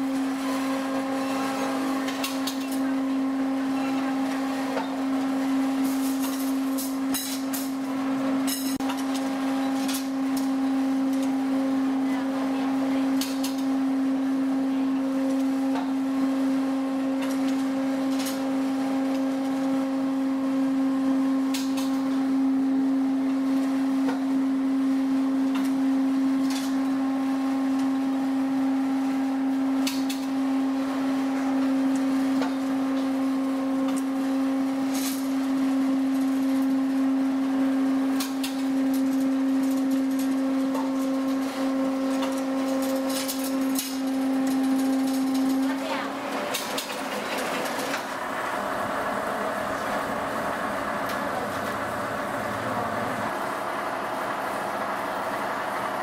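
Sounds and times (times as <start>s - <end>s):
noodle machine humming: 0.0s - 56.0s.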